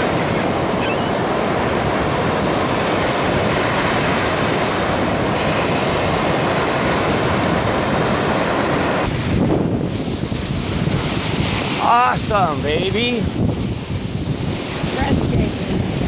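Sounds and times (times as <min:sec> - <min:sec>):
surf washing onto beach: 0:00.0 - 0:16.0.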